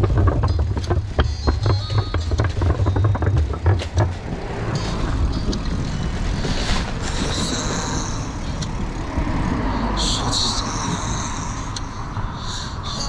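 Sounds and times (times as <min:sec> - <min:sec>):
traffic on road: 0:00.0 - 0:13.0.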